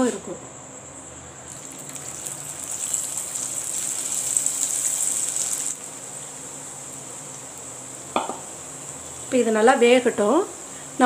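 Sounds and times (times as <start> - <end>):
food sizzling in hot oil: 1.4 - 11.0.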